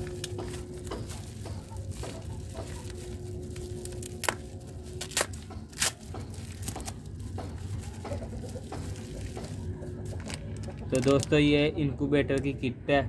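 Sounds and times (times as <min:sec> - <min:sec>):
bubble wrap crinkling: 0:00.0 - 0:11.4.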